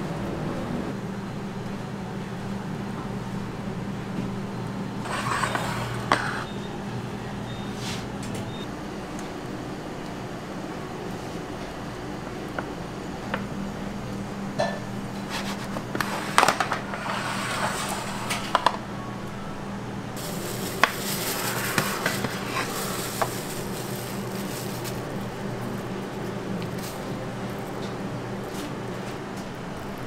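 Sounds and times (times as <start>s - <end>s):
kitchen equipment humming: 3.0s - 30.0s.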